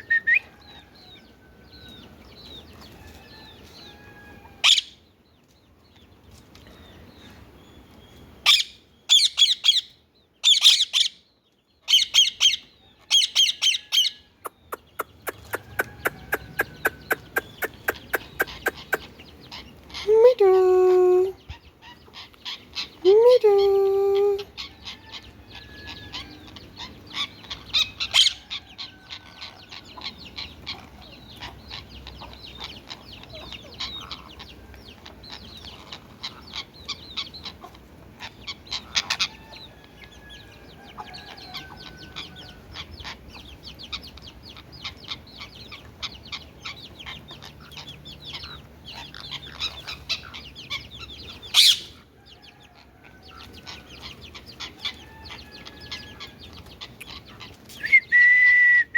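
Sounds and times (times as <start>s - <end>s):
birds chirping and clucking: 0.0s - 58.9s
sharp bird calls: 0.0s - 58.9s.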